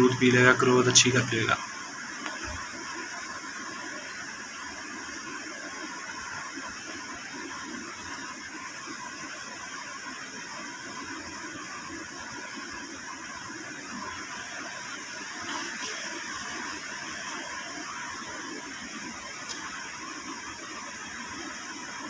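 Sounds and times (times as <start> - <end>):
steady hissing noise: 0.0 - 22.0.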